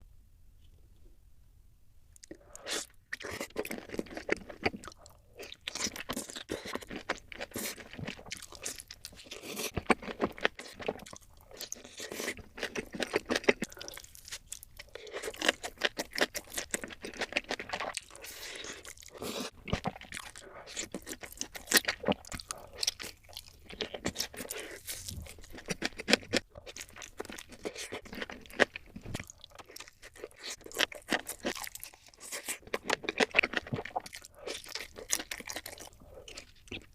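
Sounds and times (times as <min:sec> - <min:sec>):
crunchy food being chewed: 0:02.1 - 0:36.9.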